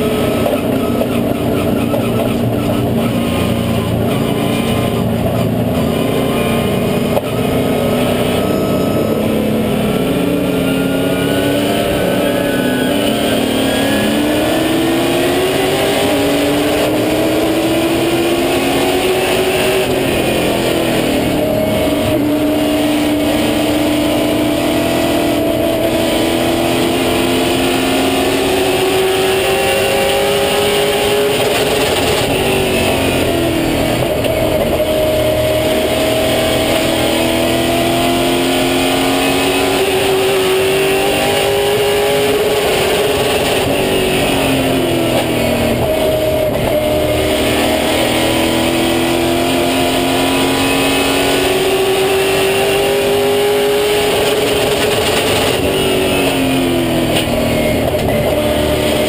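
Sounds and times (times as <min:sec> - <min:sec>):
race car engine revving: 0:00.0 - 0:59.0
road and wind noise: 0:00.0 - 0:59.0.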